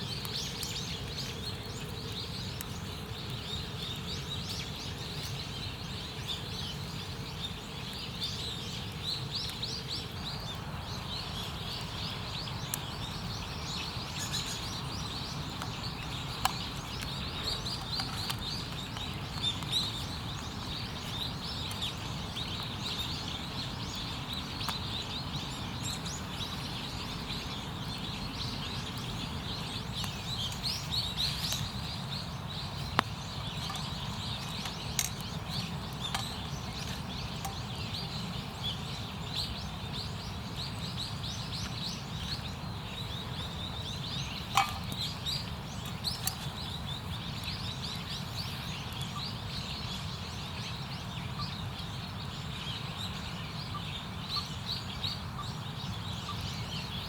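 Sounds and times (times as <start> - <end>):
small birds twittering: 0.0 - 57.0.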